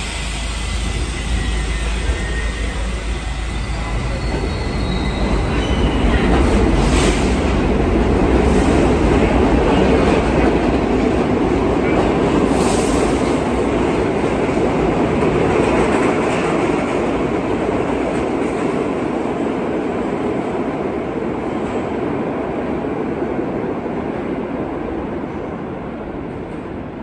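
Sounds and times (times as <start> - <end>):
subway train departing: 0.0 - 27.0.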